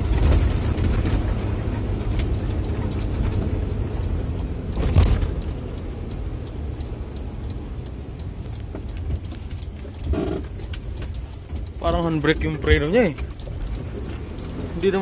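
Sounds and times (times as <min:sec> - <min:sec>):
diesel truck engine running: 0:00.0 - 0:15.0
road rumble: 0:00.0 - 0:15.0.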